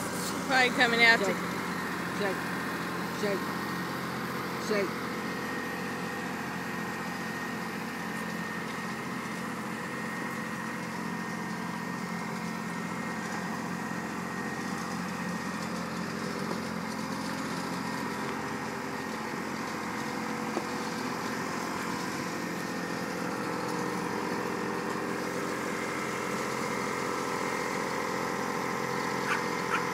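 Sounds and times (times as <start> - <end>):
tractor engine idling: 0.0 - 29.9.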